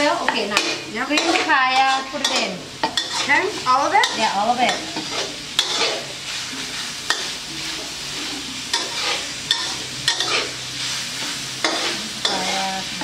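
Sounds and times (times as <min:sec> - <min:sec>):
noodles sizzling in a pan: 0:00.0 - 0:13.0.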